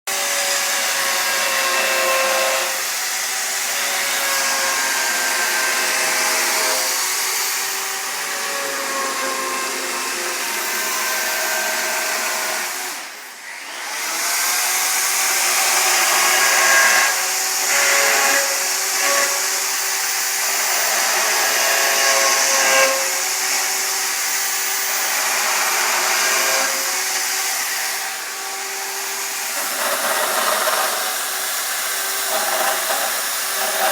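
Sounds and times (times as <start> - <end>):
chainsaw cutting wood: 0.1 - 33.9.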